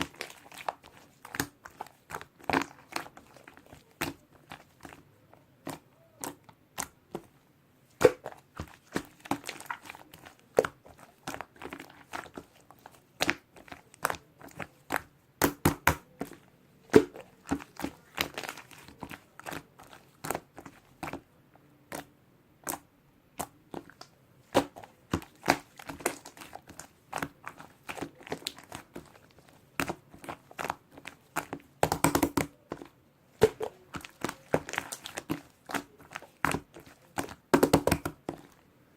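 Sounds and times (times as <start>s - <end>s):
slime squishing with sticky clicks: 0.0s - 38.6s.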